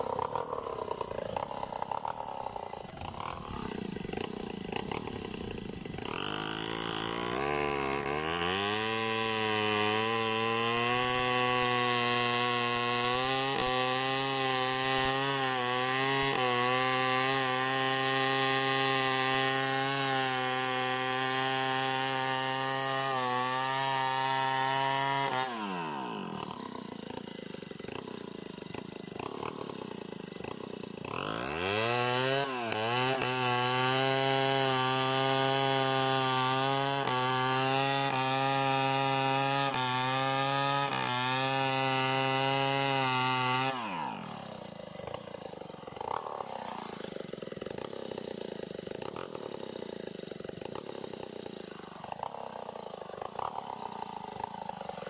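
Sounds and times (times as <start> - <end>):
chainsaw cutting into tree: 0.0 - 55.0.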